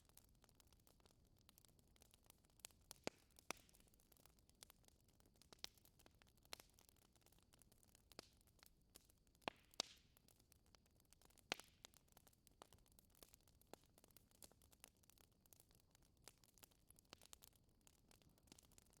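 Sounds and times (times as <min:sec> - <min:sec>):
fire popping: 0:00.0 - 0:19.0
wood fire crackling: 0:00.0 - 0:19.0.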